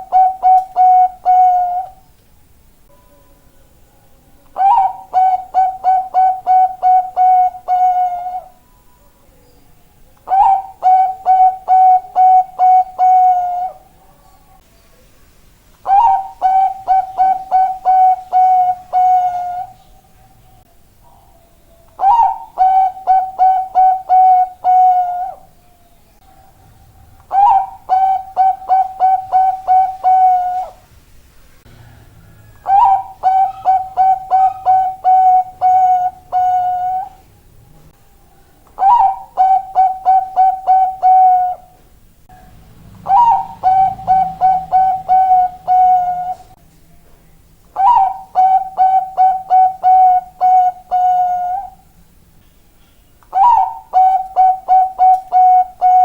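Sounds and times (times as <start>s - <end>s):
dove cooing song: 0.0s - 2.1s, 4.4s - 8.7s, 10.0s - 14.6s, 15.8s - 30.9s, 31.7s - 46.6s, 47.7s - 52.0s, 53.2s - 56.0s.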